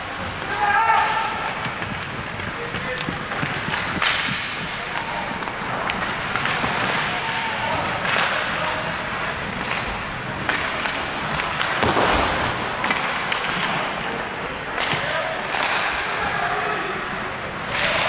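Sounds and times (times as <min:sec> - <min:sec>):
hockey sticks and puck clacking: 0:00.0 - 0:18.0
skate blades scraping ice: 0:00.1 - 0:16.0.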